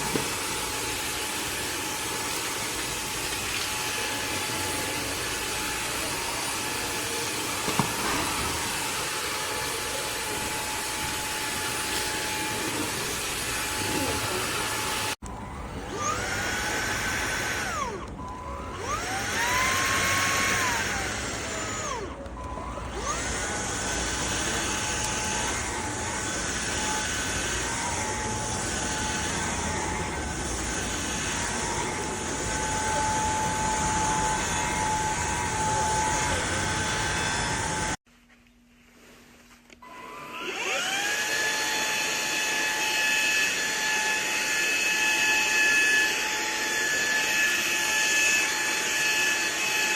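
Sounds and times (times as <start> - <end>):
vacuum motor whining: 0.0 - 38.0, 39.7 - 49.9.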